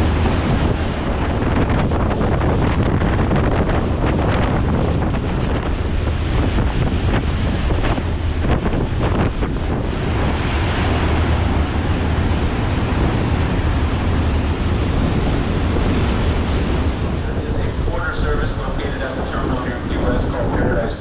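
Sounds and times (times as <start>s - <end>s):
deep rumble: 0.0s - 21.0s
steady rush like sea water: 0.0s - 21.0s
wind buffeting microphone: 0.0s - 21.0s.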